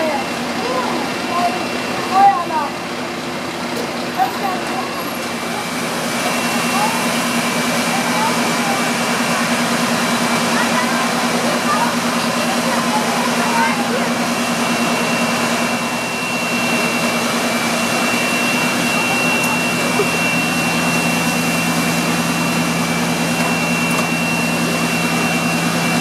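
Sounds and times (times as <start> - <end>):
engine and pump drone: 0.0 - 26.0
high whine: 4.7 - 26.0.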